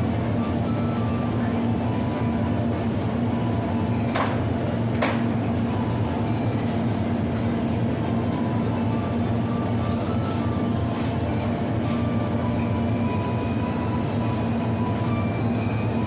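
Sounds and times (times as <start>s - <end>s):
store hum with droning tones: 0.0s - 16.0s.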